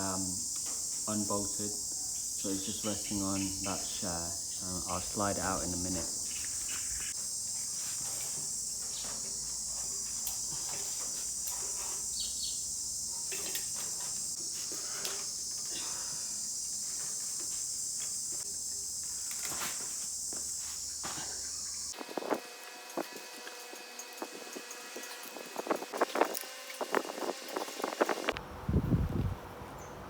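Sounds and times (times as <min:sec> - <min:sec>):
crickets trilling: 0:00.0 - 0:28.4.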